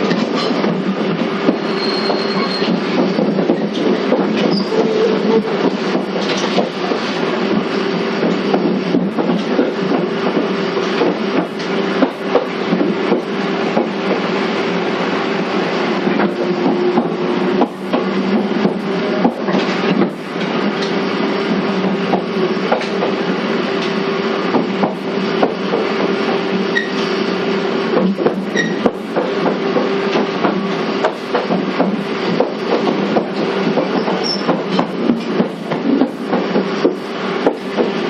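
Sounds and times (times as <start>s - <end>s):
wheels clicking over rail joints: 0.0s - 14.3s, 21.7s - 38.0s
electric train motor hum: 0.0s - 38.0s
train rolling noise: 0.0s - 38.0s.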